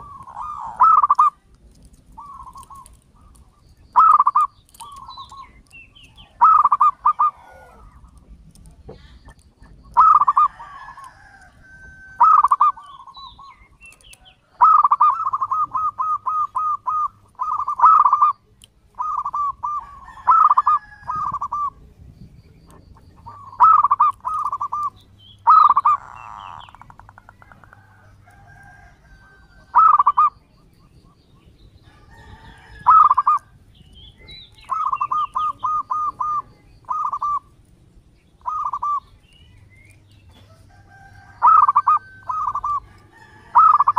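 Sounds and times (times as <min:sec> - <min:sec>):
dove cooing: 0:00.0 - 0:31.0, 0:31.8 - 0:37.6, 0:38.3 - 0:39.5, 0:40.3 - 0:43.9.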